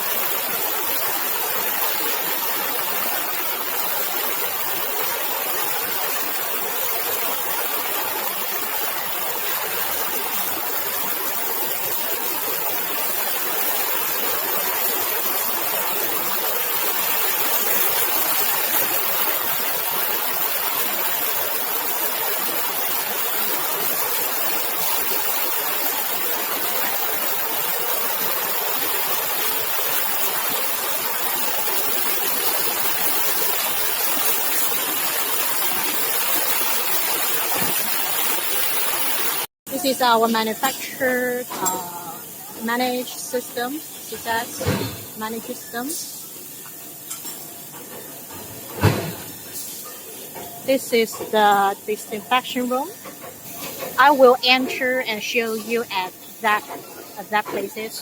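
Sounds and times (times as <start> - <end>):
workshop background hiss: 0.0 - 58.0.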